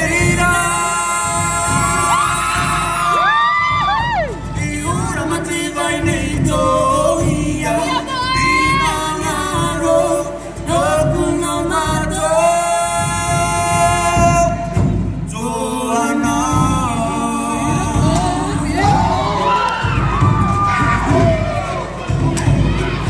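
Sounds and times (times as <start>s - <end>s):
group of voices singing: 0.0s - 23.0s.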